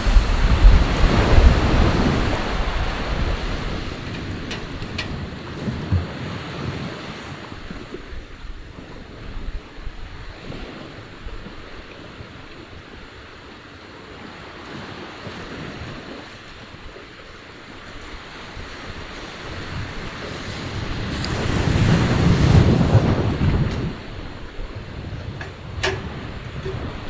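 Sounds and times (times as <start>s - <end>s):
sea waves washing ashore: 0.0s - 27.0s
wind rumble on microphone: 0.0s - 27.0s.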